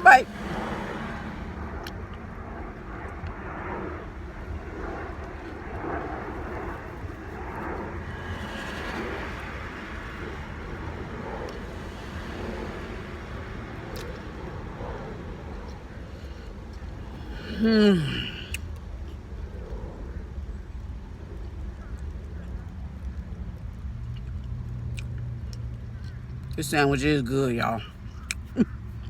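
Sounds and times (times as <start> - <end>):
low rumble of passing vehicles: 0.0 - 29.0.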